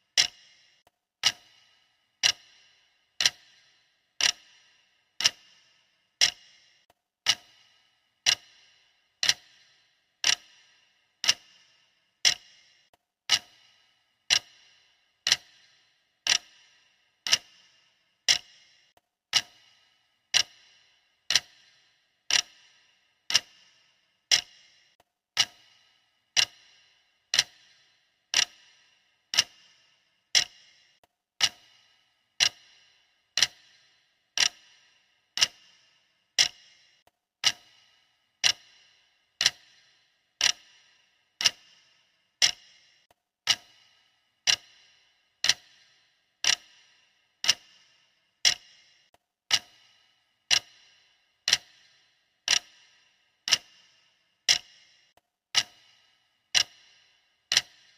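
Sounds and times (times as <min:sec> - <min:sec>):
clock ticking: 0:00.0 - 0:57.9.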